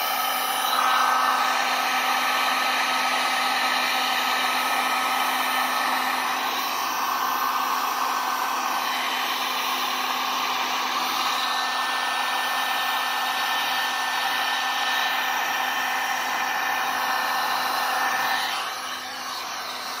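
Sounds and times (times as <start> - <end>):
heat gun motor whine: 0.0 - 20.0.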